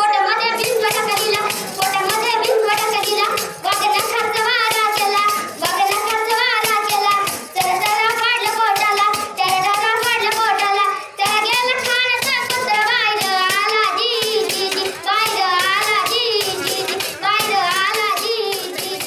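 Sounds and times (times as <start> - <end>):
boy singing a ballad: 0.0 - 19.0
jingled frame drum beating: 0.4 - 19.0.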